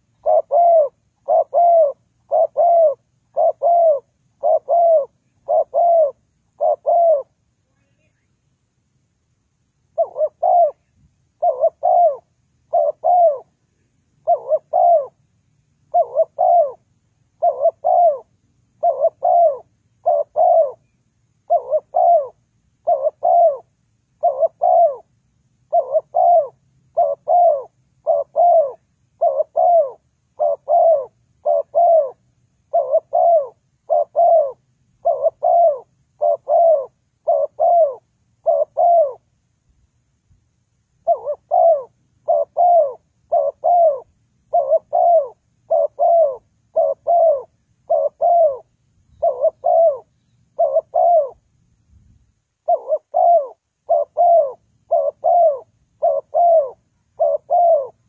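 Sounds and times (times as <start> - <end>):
dove cooing: 0.0 - 8.3, 9.9 - 15.2, 15.8 - 39.3, 41.0 - 51.4, 52.6 - 58.0.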